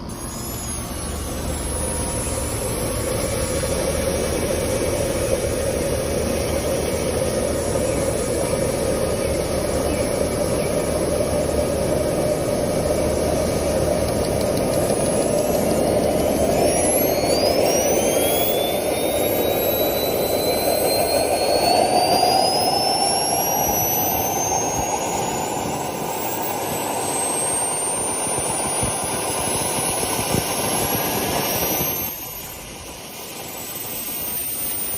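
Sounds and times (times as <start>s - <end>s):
helicopter turbine whine: 0.0s - 34.9s
loud rushing hiss: 0.0s - 34.9s.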